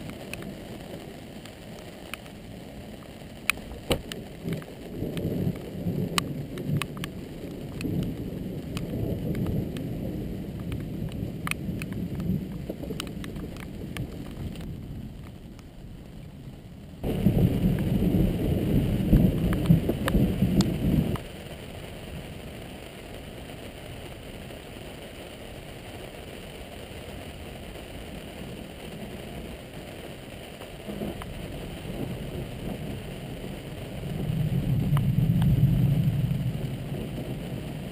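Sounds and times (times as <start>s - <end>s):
rain hiss: 0.0s - 37.9s
raindrop ticks: 0.0s - 37.9s
thunder rumbling: 3.6s - 24.2s, 27.6s - 37.9s.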